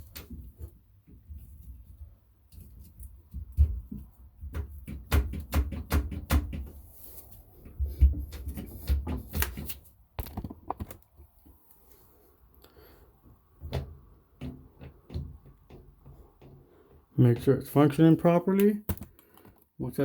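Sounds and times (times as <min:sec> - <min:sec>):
plumbing parts clicking and knocking: 0:00.0 - 0:06.8, 0:07.6 - 0:11.1, 0:13.5 - 0:19.6.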